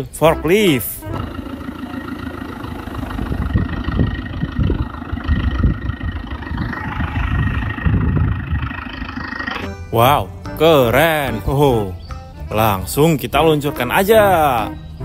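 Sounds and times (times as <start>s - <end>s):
forklift engine rumbling: 0.0s - 15.0s.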